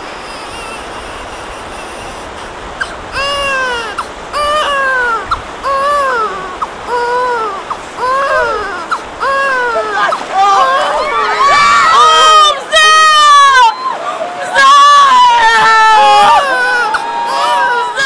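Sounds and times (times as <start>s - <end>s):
steady hiss: 0.0s - 18.0s
baby crying: 0.2s - 13.9s, 14.5s - 18.0s.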